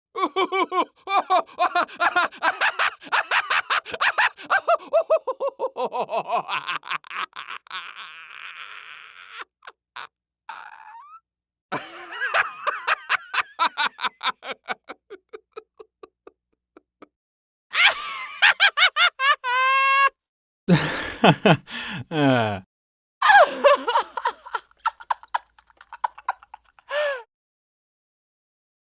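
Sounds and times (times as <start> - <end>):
person laughing: 0.2 - 11.1, 11.7 - 17.1, 17.7 - 22.6, 23.2 - 27.2.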